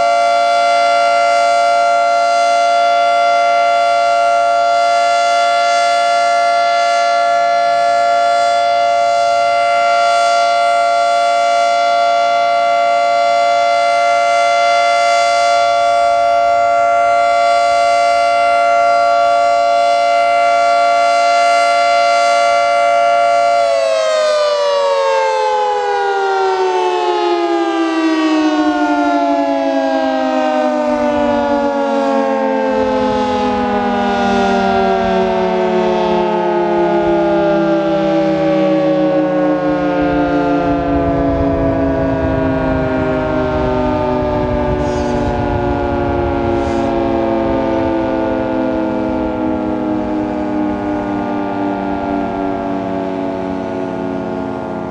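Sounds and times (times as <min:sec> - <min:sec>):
electromechanical siren chord: 0:00.0 - 0:54.9.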